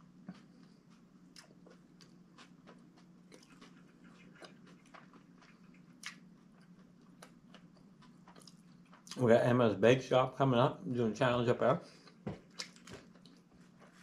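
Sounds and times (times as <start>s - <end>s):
faint chewing clicks: 0.0s - 9.2s, 11.9s - 14.0s
low steady hum: 0.0s - 14.0s.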